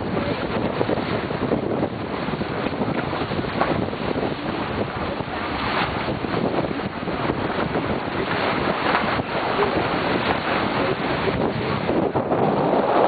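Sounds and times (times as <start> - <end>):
water rushing along hulls: 0.0 - 13.0
wind buffeting the microphone: 0.0 - 13.0.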